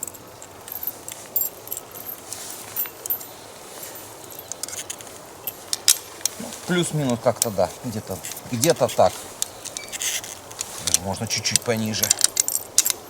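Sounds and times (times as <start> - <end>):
steady low background noise: 0.0 - 13.0.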